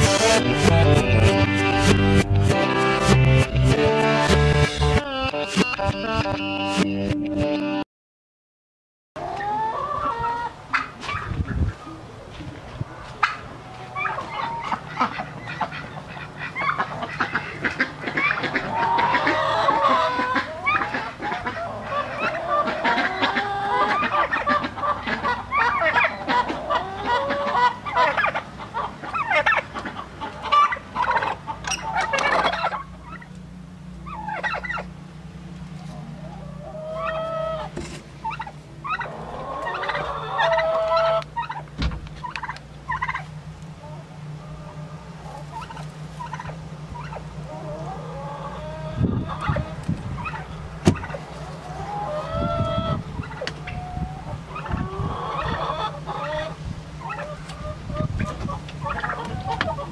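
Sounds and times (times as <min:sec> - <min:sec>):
hens clucking: 0:09.2 - 0:59.9
steady low hum: 0:09.2 - 0:59.9
turkeys and chickens calling: 0:09.2 - 0:59.9.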